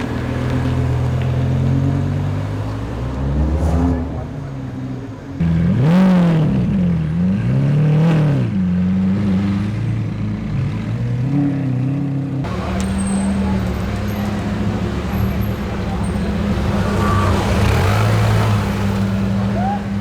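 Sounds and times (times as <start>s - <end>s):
engine low rumble: 0.0s - 20.0s
sports car engine revving: 0.0s - 20.0s.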